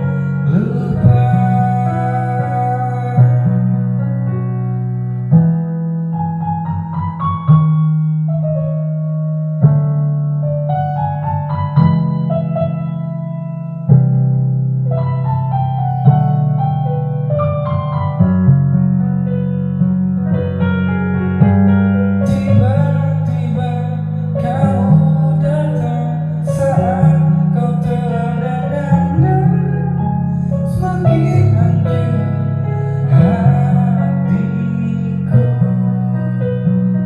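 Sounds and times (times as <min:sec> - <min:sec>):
piano ballad: 0:00.0 - 0:37.0.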